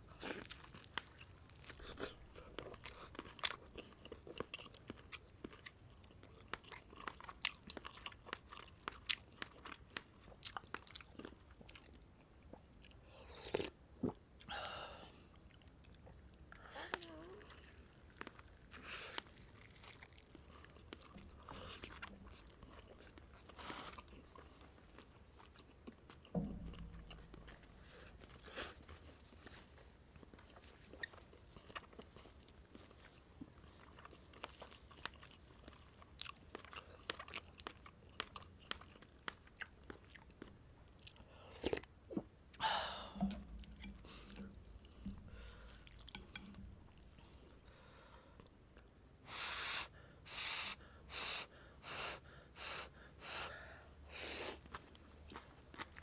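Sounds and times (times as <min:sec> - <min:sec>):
person chewing and crunching: 0:00.0 - 0:14.5, 0:15.3 - 0:29.6, 0:30.2 - 0:42.3, 0:43.2 - 0:48.9, 0:54.4 - 0:56.0.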